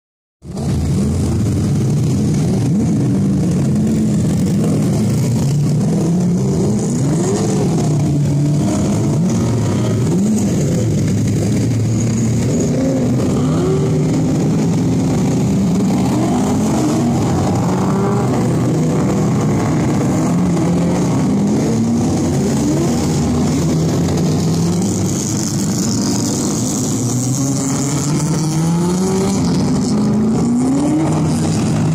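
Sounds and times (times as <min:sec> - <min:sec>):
race car engines idling and revving: 0:00.4 - 0:31.9.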